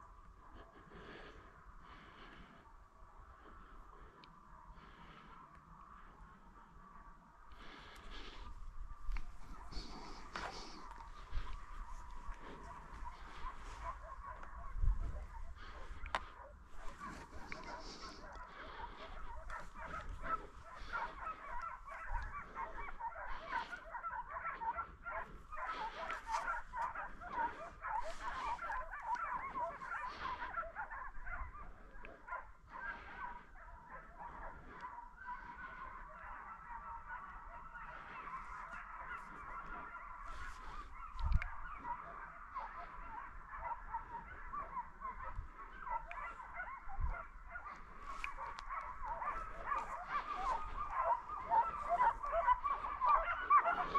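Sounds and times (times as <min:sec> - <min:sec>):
hounds baying: 0:00.0 - 0:53.9.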